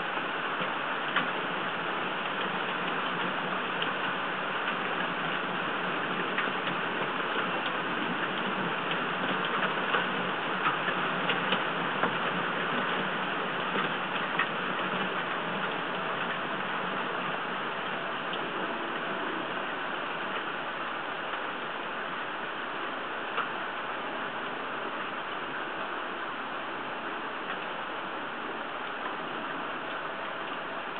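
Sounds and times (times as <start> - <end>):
heavy rain hissing: 0.0 - 30.9
raindrops ticking on camera: 0.0 - 30.9.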